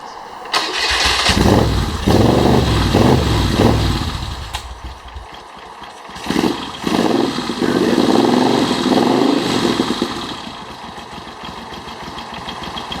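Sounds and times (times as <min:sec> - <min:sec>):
motorcycle engine running unevenly: 0:00.6 - 0:13.0.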